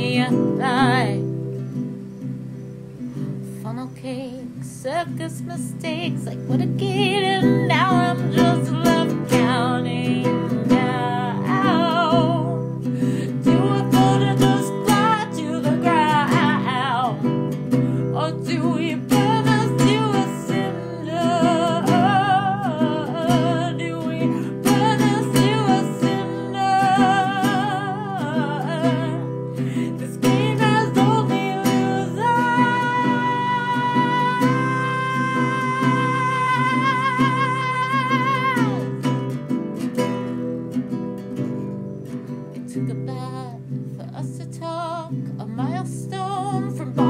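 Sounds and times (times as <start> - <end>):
person singing with vibrato: 0.0 - 1.5, 3.5 - 40.2, 42.6 - 47.0
strummed guitar: 0.0 - 47.0.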